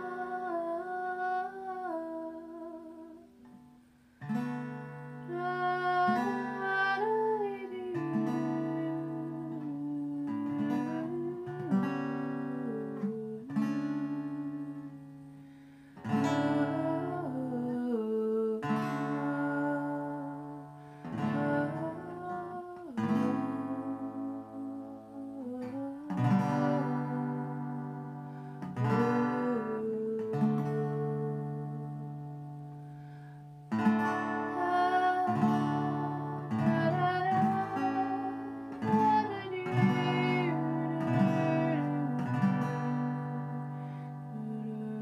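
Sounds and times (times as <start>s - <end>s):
guitar strummed slowly: 0.0s - 45.0s.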